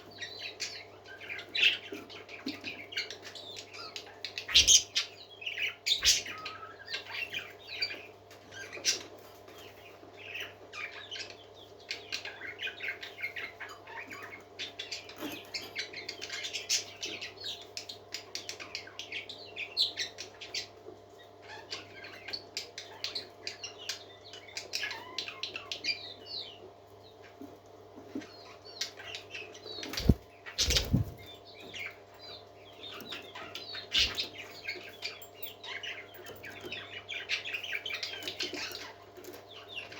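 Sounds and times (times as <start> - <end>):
parakeets chirping and chattering: 0.0 - 39.9.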